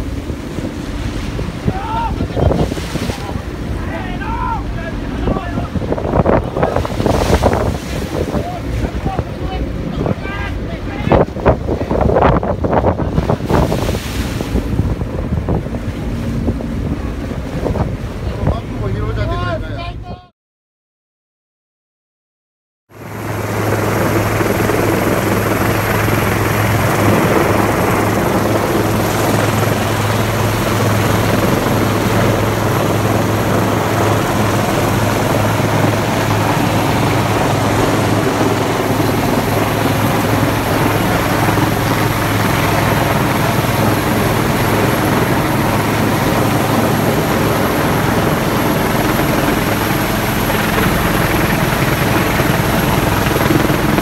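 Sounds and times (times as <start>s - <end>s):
helicopter rotor and engine: 0.0s - 19.8s, 22.9s - 54.0s.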